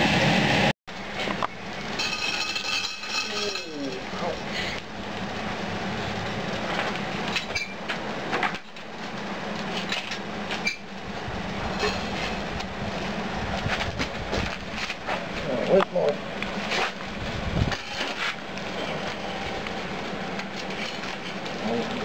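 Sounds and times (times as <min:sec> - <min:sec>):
furnace burner rushing: 0:00.0 - 0:22.0.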